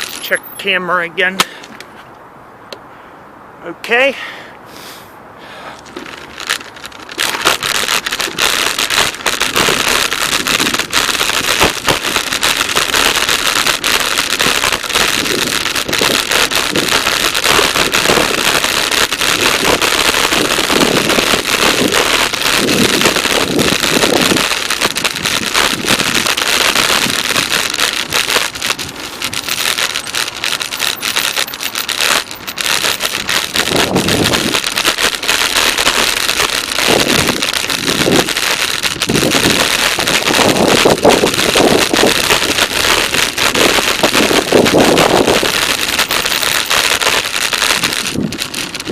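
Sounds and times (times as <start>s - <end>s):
bicycle rattles over pavement: 5.9s - 48.9s
wind rushing over microphone: 7.4s - 46.1s, 46.9s - 48.9s.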